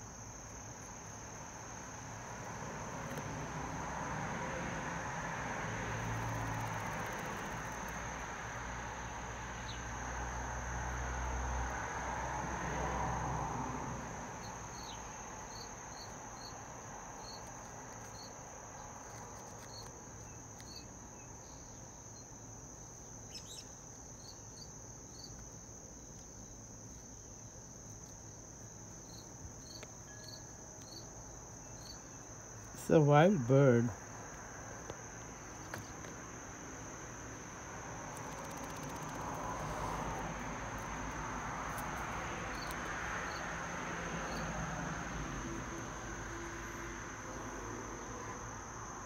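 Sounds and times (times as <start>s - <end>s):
insect chorus drone: 0.0s - 49.0s.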